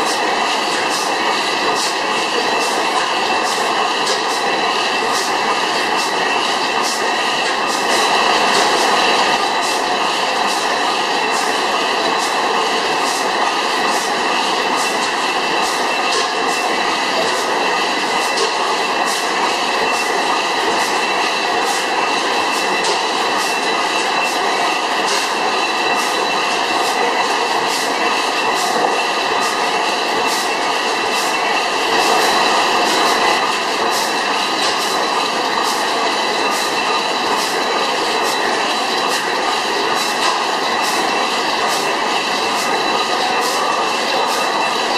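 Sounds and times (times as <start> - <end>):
stationary engine clattering: 0.0 - 44.9.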